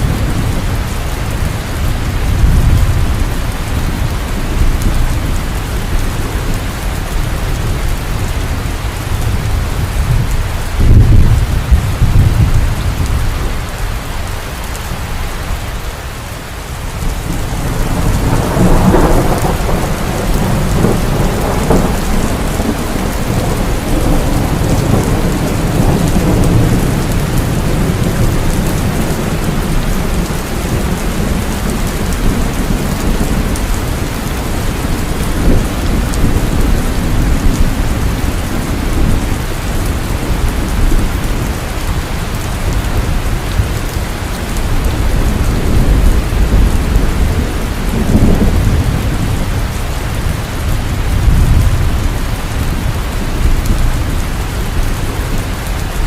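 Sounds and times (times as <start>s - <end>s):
deep rolling thunder: 0.0s - 13.7s, 16.9s - 56.0s
heavy rain falling: 0.0s - 56.0s.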